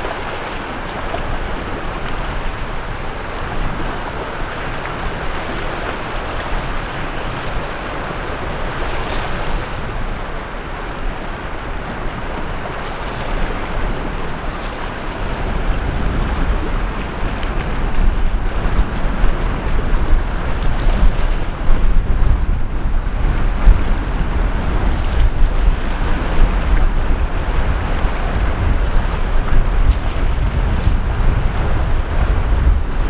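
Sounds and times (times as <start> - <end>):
waves breaking on beach: 0.0 - 33.0
wind rumbling on microphone: 0.0 - 33.0.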